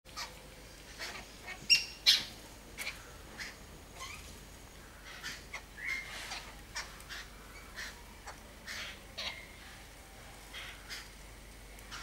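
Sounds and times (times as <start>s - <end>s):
birds chirping and squawking: 0.1s - 9.8s, 10.5s - 11.2s, 11.8s - 12.0s.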